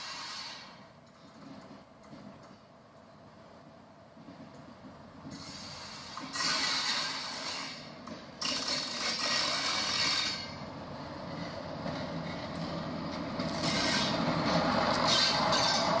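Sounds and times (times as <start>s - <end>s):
railcar engine humming: 0.0s - 16.0s
wheel and rail noise: 0.0s - 16.0s.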